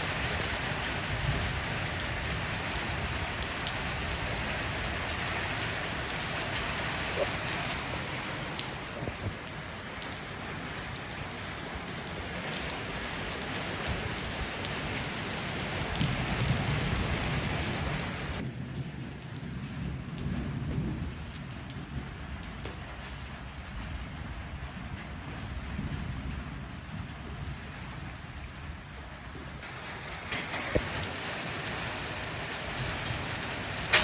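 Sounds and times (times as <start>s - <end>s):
heavy rain pouring: 0.0s - 34.0s
thunder rumbles: 0.0s - 34.0s.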